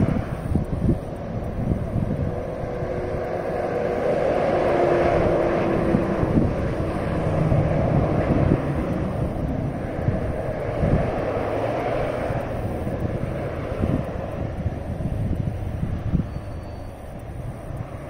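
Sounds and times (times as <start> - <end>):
highway traffic passing: 0.0 - 18.0
truck passing: 0.0 - 18.0.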